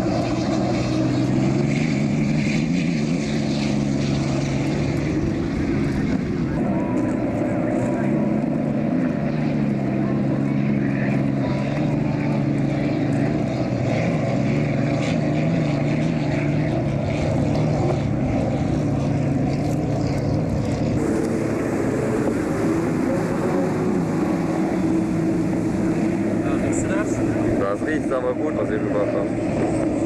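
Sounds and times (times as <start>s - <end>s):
race boat engines droning: 0.0s - 30.0s.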